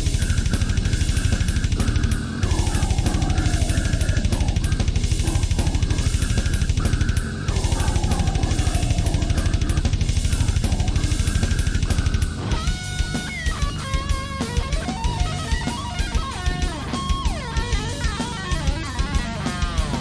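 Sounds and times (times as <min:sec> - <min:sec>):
rock music with drum beat: 0:00.0 - 0:20.0.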